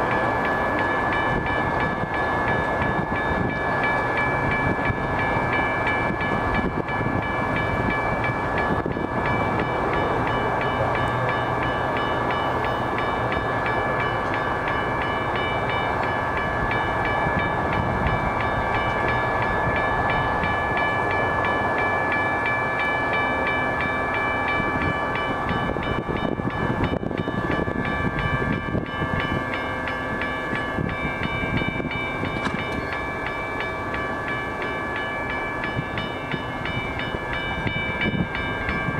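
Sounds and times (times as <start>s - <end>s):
diesel locomotive rumble: 0.0s - 38.9s.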